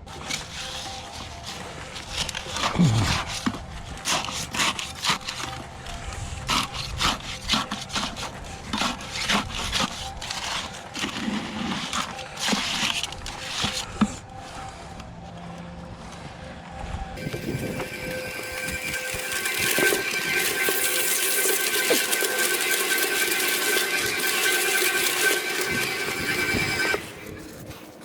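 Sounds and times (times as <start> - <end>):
scraping and rubbing strokes: 0.0 - 16.5, 17.2 - 28.0.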